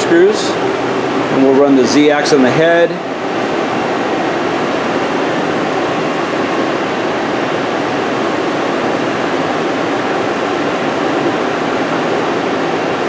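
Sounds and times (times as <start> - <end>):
milling machine rushing noise: 0.0 - 13.0.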